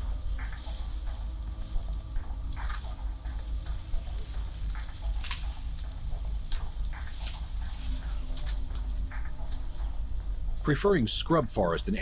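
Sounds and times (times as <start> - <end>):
insects trilling: 0.0 - 12.0
low rumble: 0.0 - 12.0
rustling of leafy branches: 0.0 - 12.0.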